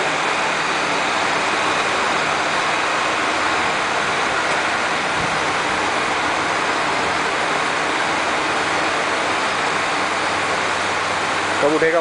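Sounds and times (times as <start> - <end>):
machine hissing: 0.0 - 12.0.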